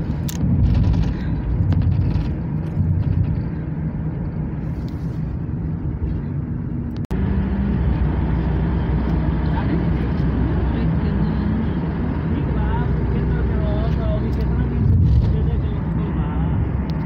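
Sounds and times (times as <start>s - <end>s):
road and engine rumble inside vehicle: 0.0s - 17.0s.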